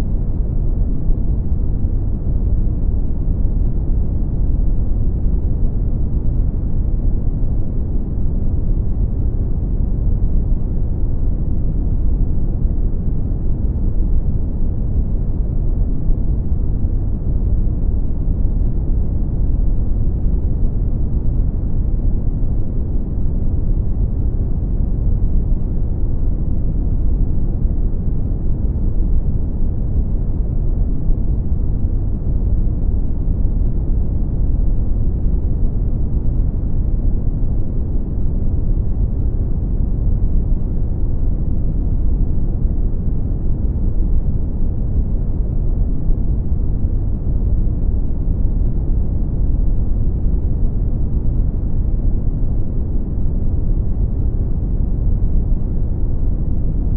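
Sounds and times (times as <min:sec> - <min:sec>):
brown noise rumbling hiss: 0:00.0 - 0:56.9.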